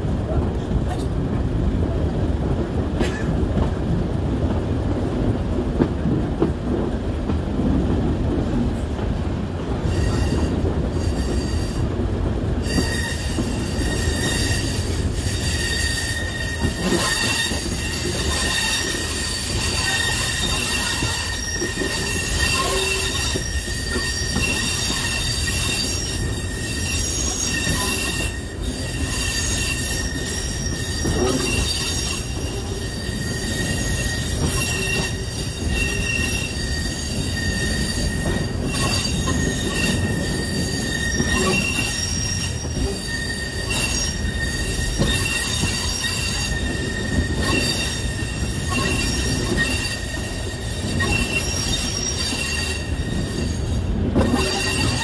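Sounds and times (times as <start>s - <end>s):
train wheels rumbling on track: 0.0s - 55.0s
high-pitched wheel squeal: 9.8s - 11.9s, 12.6s - 55.0s.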